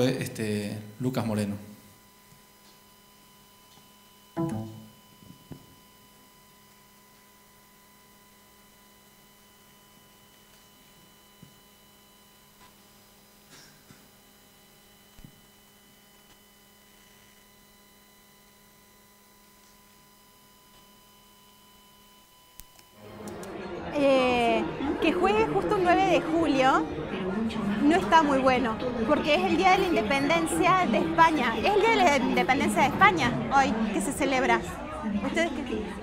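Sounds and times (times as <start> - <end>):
electrical hum and whine: 0.0 - 36.0.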